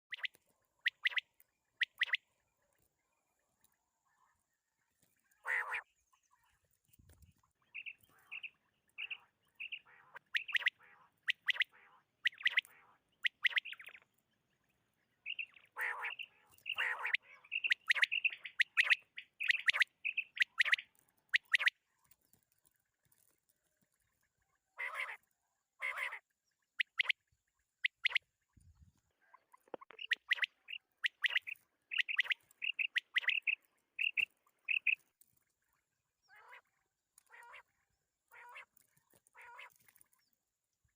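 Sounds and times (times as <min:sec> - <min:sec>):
quail chirping calls: 0:00.0 - 0:02.9, 0:04.0 - 0:22.4, 0:24.2 - 0:25.2, 0:25.8 - 0:40.4.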